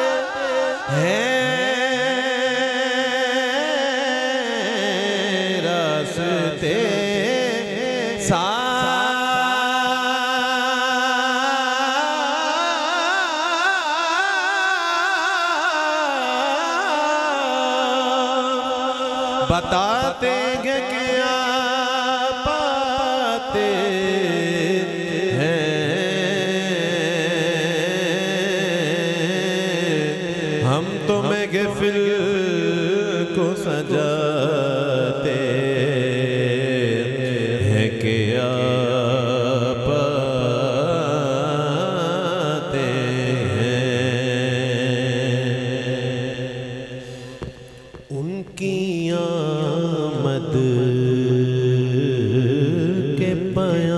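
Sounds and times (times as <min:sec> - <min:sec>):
man singing into a microphone: 0:00.0 - 0:53.9.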